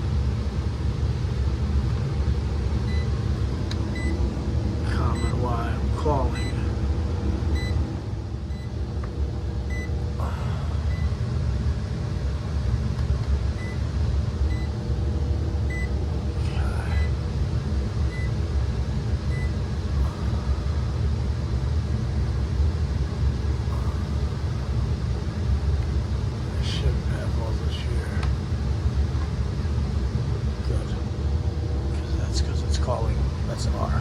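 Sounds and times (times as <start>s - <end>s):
furnace blower humming: 0.0s - 34.0s.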